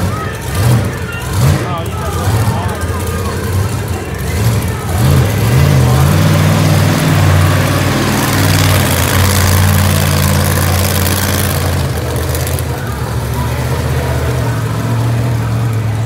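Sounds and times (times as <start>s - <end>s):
engine revs: 0.0s - 16.0s
monster truck engine running: 0.0s - 16.0s.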